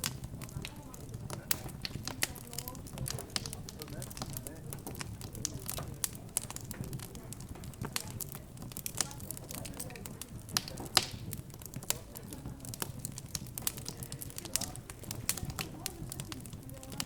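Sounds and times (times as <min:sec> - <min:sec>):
background chatter: 0:00.0 - 0:17.0
wood fire crackling and popping: 0:00.0 - 0:17.0.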